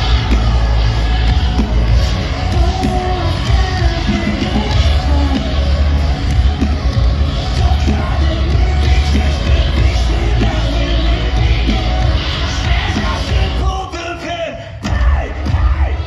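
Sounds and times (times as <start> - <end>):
live metal band playing: 0.0 - 16.0.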